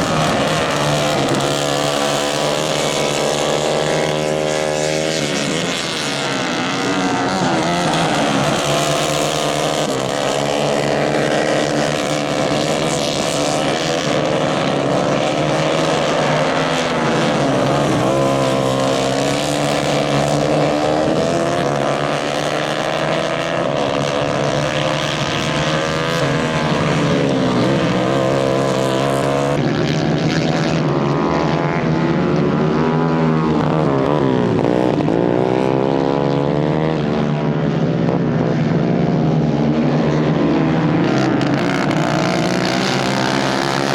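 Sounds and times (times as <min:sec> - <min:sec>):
racing kart engines revving: 0:00.0 - 0:43.9.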